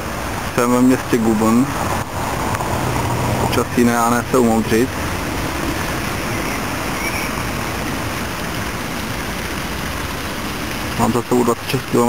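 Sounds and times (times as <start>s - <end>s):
rain hiss on wet pavement: 0.0s - 12.0s.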